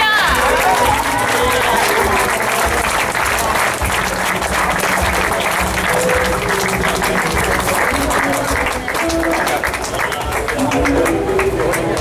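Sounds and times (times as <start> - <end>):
crowd applauding: 0.0 - 12.0
music playing: 0.0 - 12.0.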